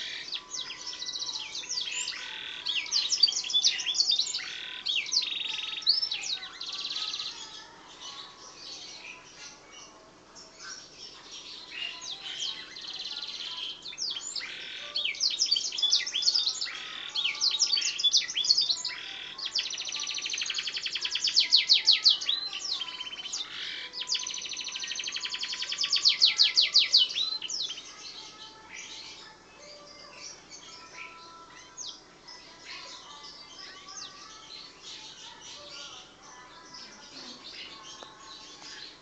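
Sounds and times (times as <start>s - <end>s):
canary singing: 0.0s - 39.0s.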